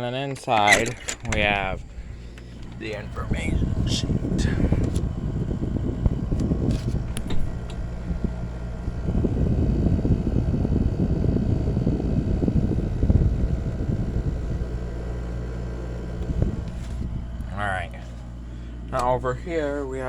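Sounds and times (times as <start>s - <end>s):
air conditioner running: 0.0s - 20.0s.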